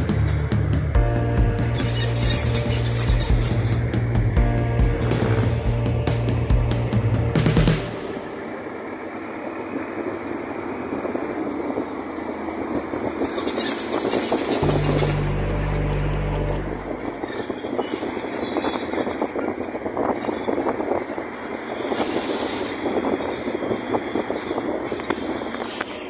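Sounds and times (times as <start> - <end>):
deep engine drone: 0.0 - 26.0
vehicle engine and road noise: 0.0 - 26.0.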